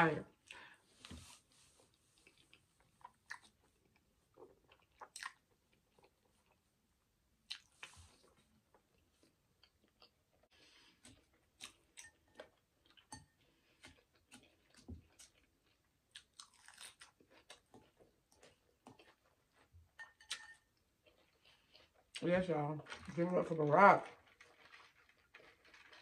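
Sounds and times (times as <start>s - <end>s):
person chewing: 1.2s - 6.6s, 7.4s - 22.2s, 24.2s - 26.0s.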